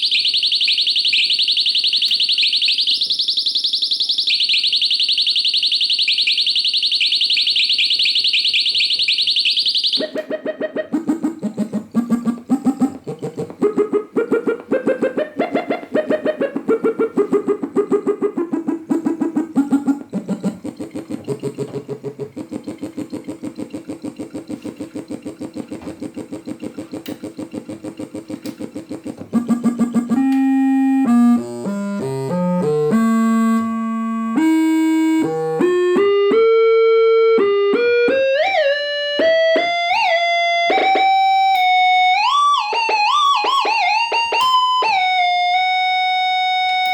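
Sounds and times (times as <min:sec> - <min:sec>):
monophonic analog synthesizer: 0:00.0 - 0:46.9.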